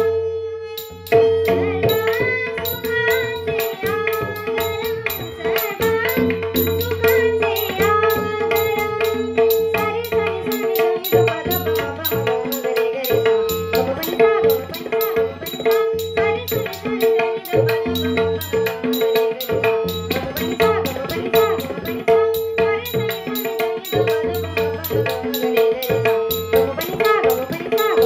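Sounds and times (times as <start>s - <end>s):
tabla playing a steady rhythm: 0.0s - 28.0s.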